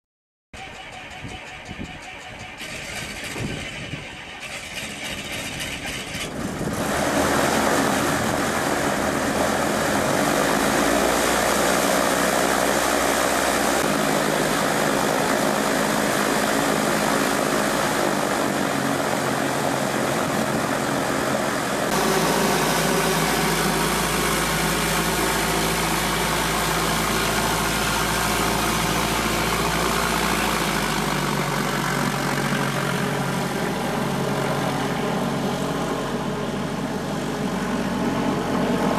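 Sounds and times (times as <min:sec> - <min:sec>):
light aircraft engine and propeller: 0:00.6 - 0:38.9.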